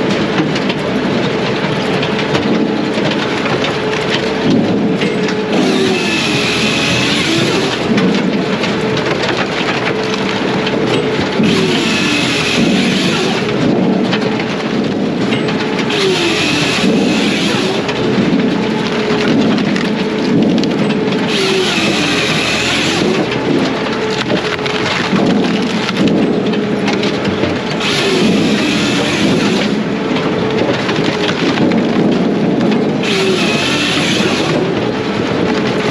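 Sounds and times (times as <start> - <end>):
firewood processor running: 0.0 - 35.9.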